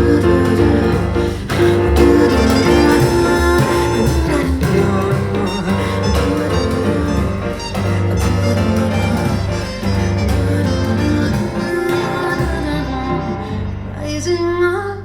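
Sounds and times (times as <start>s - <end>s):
instrumental pop music over loudspeakers: 0.0s - 14.5s.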